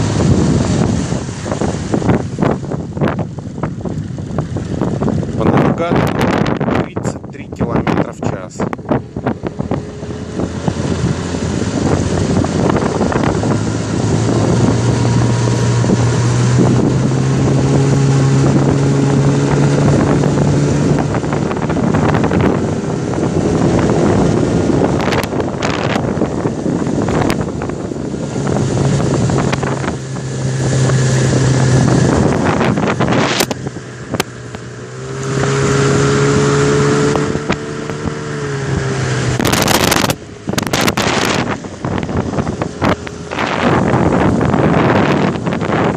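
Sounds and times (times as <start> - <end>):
outboard motor running: 0.0 - 45.9
water rushing along hull: 0.0 - 45.9
wind noise on microphone: 0.0 - 45.9.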